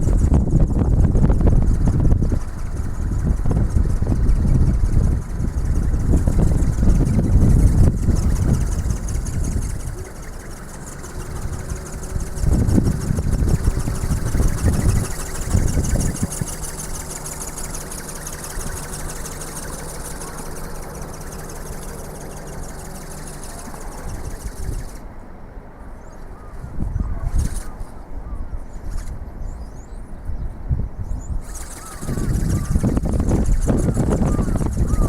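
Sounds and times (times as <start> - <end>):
motor and gear drive whining: 0.0 - 25.1, 31.4 - 35.0
wind buffeting microphone: 0.0 - 25.2, 25.8 - 35.0.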